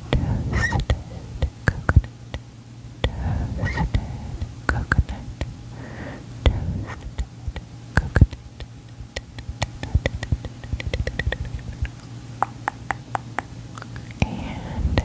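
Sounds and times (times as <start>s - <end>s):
wet mouth clicks: 0.1s - 5.6s, 6.5s - 15.0s.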